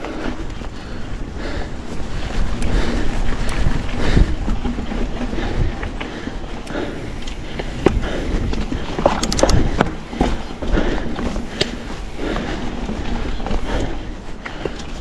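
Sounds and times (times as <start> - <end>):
bike rattling over bumps: 0.0 - 15.0
bike tyres rumbling over dirt: 0.0 - 15.0.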